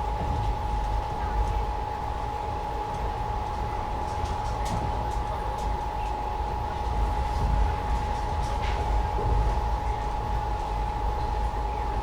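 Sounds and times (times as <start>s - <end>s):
constant hum: 0.0s - 12.0s
train running rumble: 0.0s - 12.0s.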